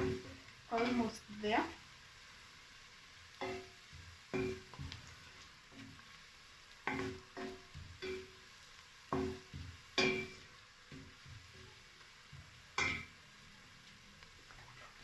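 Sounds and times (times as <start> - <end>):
onions sizzling: 0.0 - 15.0.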